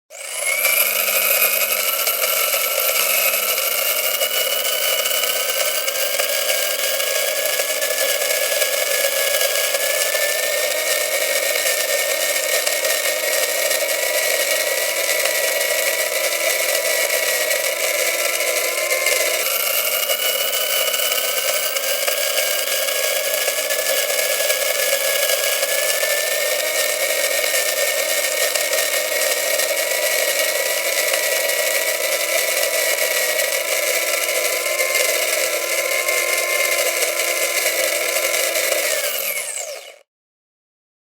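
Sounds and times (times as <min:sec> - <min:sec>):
coffee grinder grinding beans: 0:00.1 - 0:40.1.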